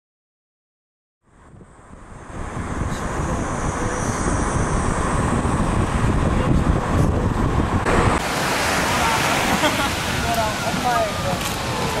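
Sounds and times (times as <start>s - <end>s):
moving vehicle rumble: 1.2s - 12.0s
wind on microphone: 1.2s - 12.0s.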